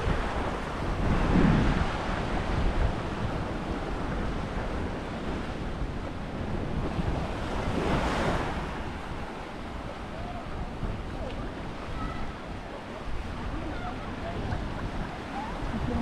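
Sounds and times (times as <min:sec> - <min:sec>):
small waves washing on beach: 0:00.0 - 0:16.0
wind rumbling on microphone: 0:00.0 - 0:16.0.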